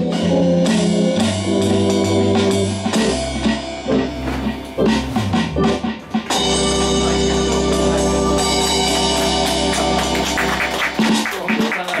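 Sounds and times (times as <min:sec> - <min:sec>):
electronic organ chord: 0:00.0 - 0:11.0.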